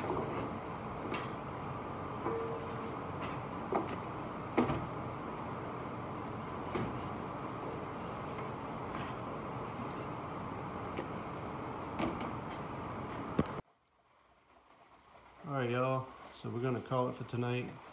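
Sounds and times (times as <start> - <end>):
steady background hum: 0.0 - 17.9.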